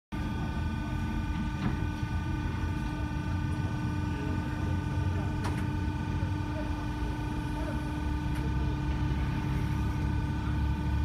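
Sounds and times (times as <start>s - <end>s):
machine hum with whining tones: 0.1s - 11.0s.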